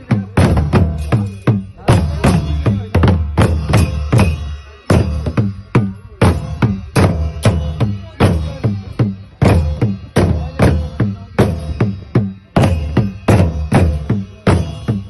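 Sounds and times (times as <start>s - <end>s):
cymbals: 0.0s - 15.0s
drums beating: 0.0s - 15.0s.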